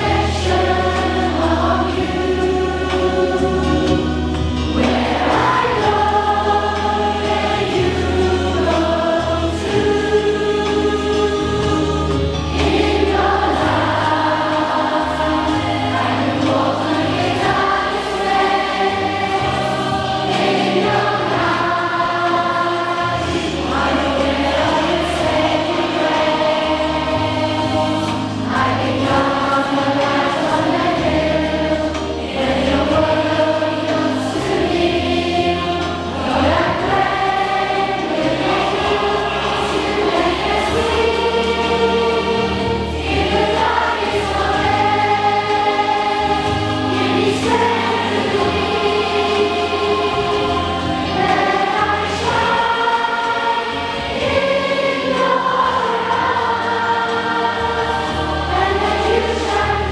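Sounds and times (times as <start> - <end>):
children singing in unison: 0.0 - 59.9
instrumental accompaniment with bass: 0.0 - 59.9.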